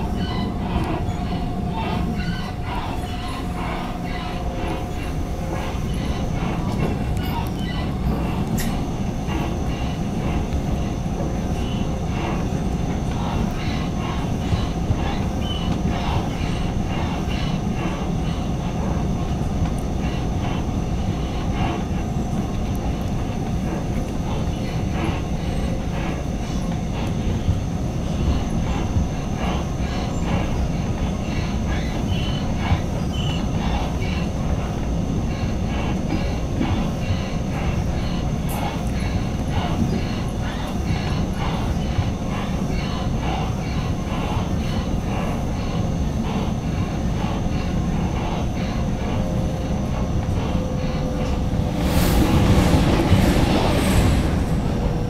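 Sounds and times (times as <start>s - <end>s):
thin steady whine: 0.0s - 55.0s
train wheels rumbling on rails: 0.0s - 55.0s.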